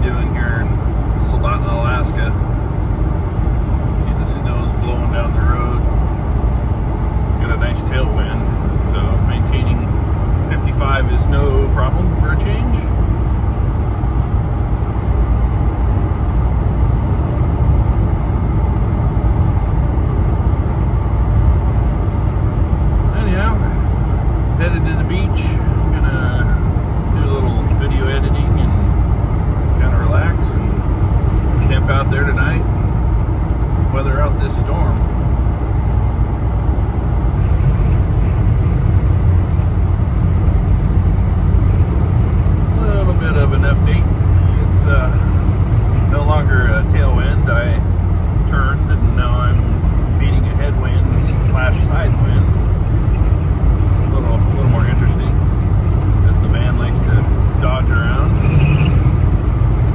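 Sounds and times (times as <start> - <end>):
van engine and road noise: 0.0 - 59.9.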